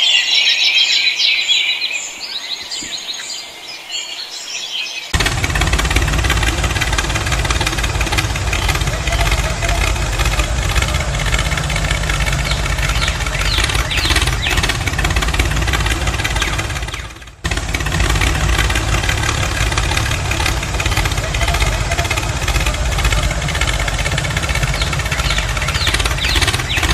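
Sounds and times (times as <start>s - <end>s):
tractor engine idling: 5.2s - 26.9s.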